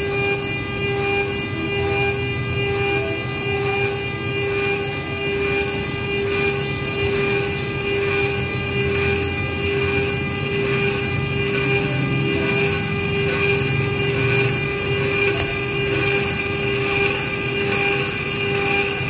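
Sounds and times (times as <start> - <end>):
end mill cutting chatter: 0.0 - 19.0
mill spindle whine: 0.0 - 19.0.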